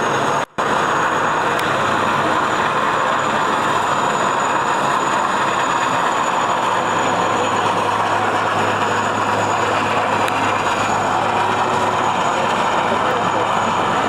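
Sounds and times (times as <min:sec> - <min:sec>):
helicopter hovering overhead: 0:00.0 - 0:14.0.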